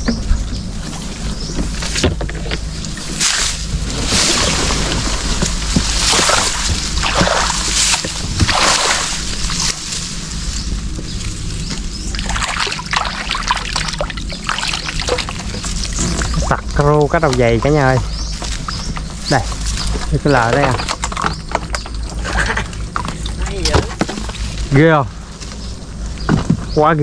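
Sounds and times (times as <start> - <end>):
water sloshing and splashing: 0.8 - 24.7.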